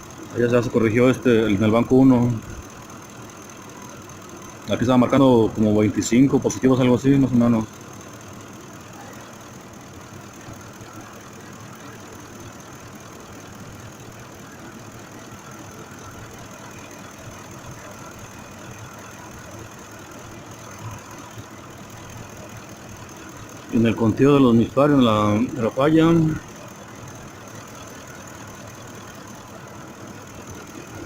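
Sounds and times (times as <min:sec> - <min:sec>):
engine idling with slight misfire: 0:00.0 - 0:31.0.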